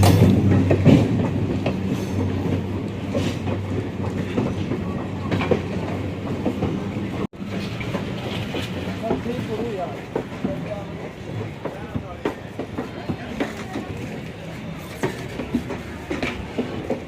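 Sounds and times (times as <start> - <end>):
train wheels clattering on track: 0.0 - 17.0.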